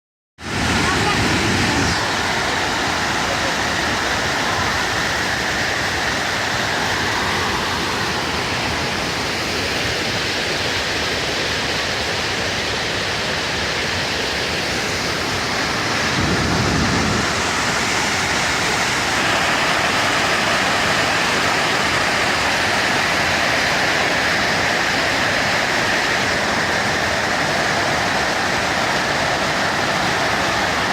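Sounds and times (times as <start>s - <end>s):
waterfall rushing: 0.4s - 30.9s.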